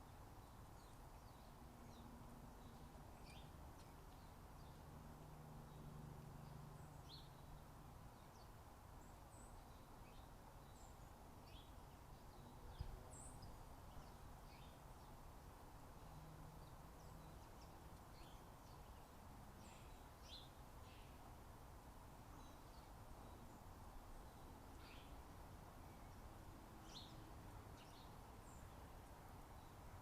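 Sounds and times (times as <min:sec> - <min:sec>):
low background hiss: 0:00.0 - 0:30.0.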